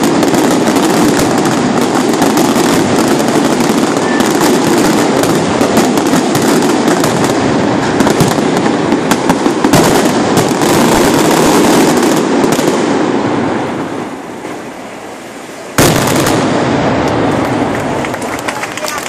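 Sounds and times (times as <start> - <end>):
fireworks banging: 0.0 - 19.0
fireworks crackling: 0.0 - 19.0.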